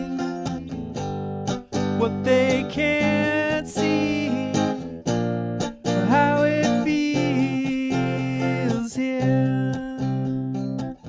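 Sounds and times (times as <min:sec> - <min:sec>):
guitar chords ringing: 0:00.0 - 0:11.0.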